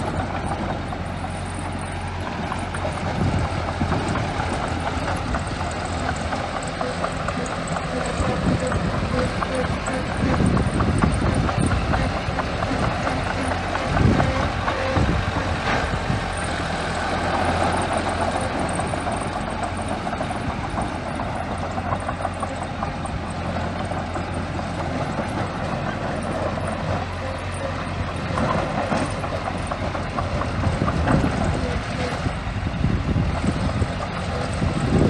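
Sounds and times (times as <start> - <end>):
bulldozer diesel engine clattering: 0.0 - 35.0.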